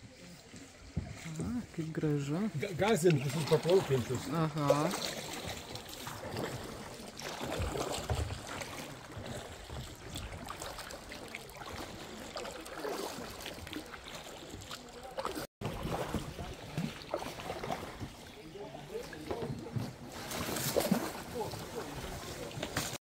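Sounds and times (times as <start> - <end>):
water splashing off paddle: 2.6 - 23.0.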